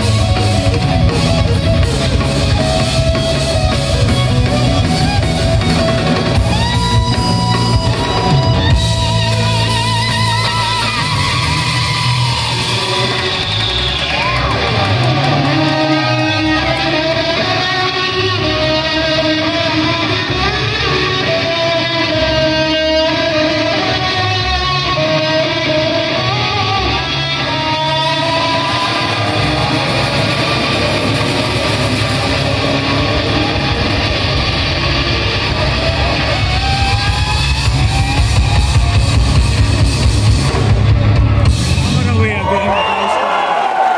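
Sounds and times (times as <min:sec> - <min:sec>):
electric guitar bending notes: 0:00.0 - 0:42.1.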